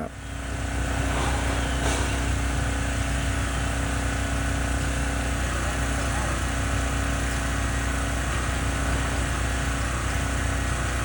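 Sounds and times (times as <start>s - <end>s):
engine-like rumble: 0.0s - 11.0s.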